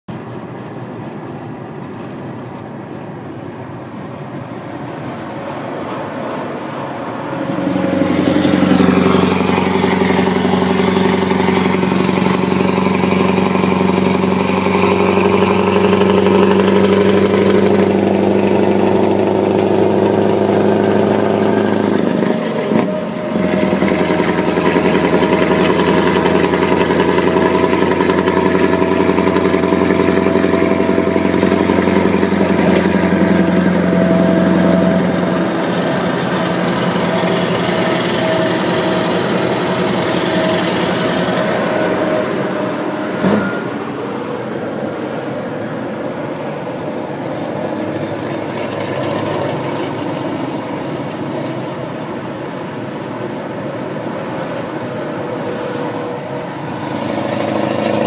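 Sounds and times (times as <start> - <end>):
truck engine running: 0.1 - 58.0.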